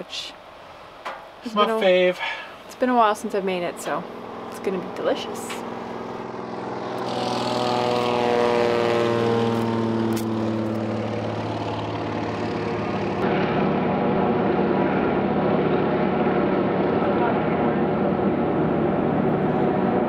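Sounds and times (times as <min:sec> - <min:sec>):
propeller plane flying past: 0:03.1 - 0:20.0.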